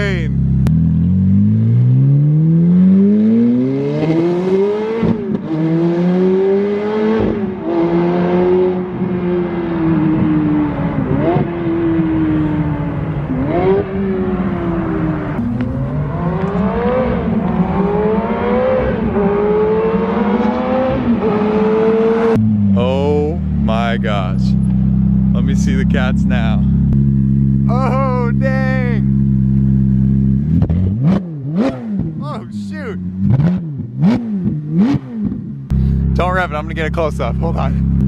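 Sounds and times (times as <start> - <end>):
sports car engine accelerating: 0.3 - 38.0.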